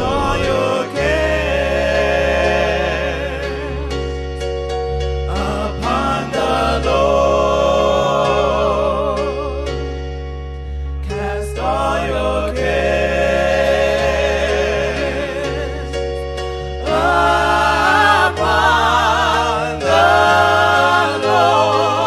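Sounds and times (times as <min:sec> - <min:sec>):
electronic keyboard chords: 0:00.0 - 0:22.0
gospel choir singing: 0:00.0 - 0:22.0.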